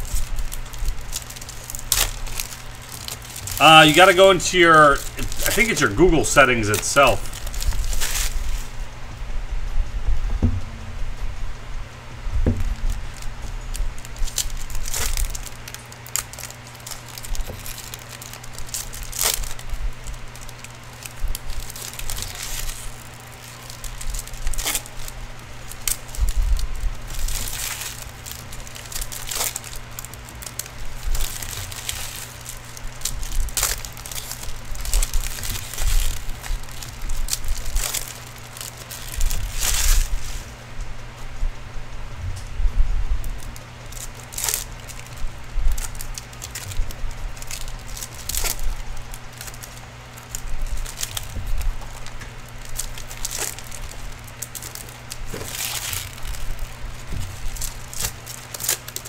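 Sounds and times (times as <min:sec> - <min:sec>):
foil wrappers crinkling and tearing: 0:00.0 - 0:09.0, 0:12.4 - 0:40.8, 0:43.2 - 0:59.0
low hum: 0:00.0 - 0:59.0.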